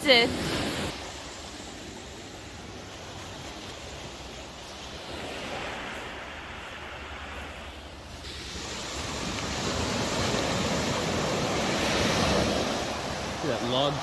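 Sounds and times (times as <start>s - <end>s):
sea waves on a stony beach: 0.0s - 14.0s.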